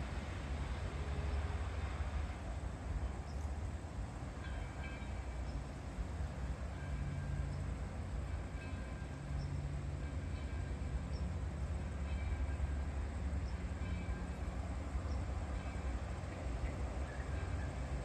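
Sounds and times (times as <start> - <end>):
distant steam locomotive rumble: 0.0 - 18.0.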